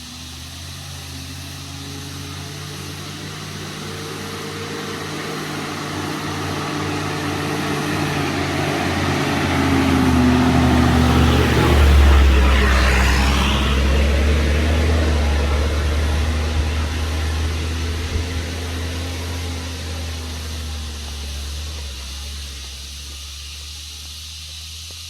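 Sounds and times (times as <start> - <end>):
vehicle engine approaching: 0.0 - 25.0.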